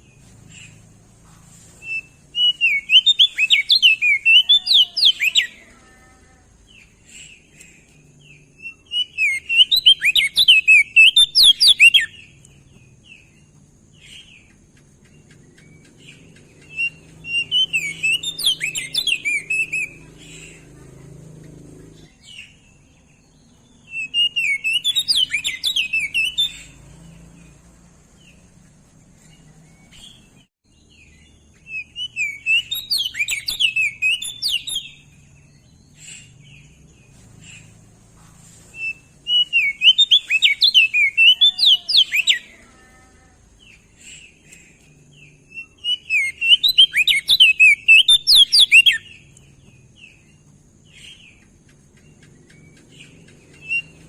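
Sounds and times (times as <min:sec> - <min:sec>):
bird twittering song: 0:00.0 - 0:54.0.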